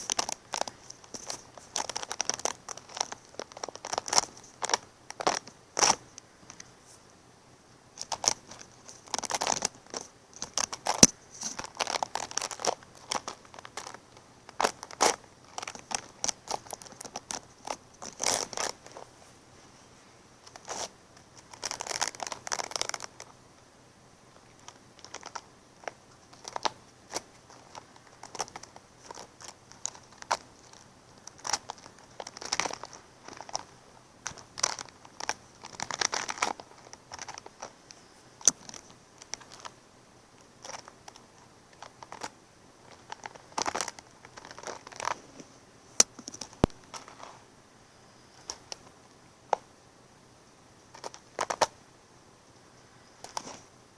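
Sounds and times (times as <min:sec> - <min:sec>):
crinkling and rustling: 0:00.0 - 0:07.0, 0:07.9 - 0:23.4, 0:24.3 - 0:39.8, 0:40.4 - 0:47.5, 0:48.3 - 0:49.7, 0:50.9 - 0:51.8, 0:53.1 - 0:53.8.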